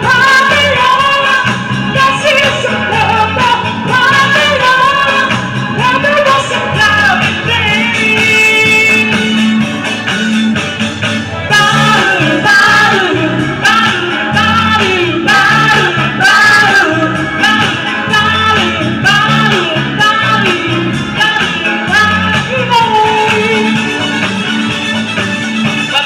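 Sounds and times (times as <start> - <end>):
karaoke singers on microphones: 0.0 - 26.0
loud backing track with bass and guitar: 0.0 - 26.0.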